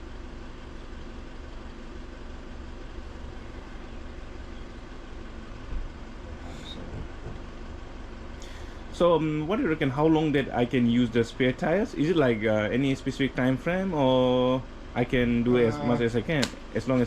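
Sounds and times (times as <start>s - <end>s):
motor vehicle humming: 0.0s - 17.0s.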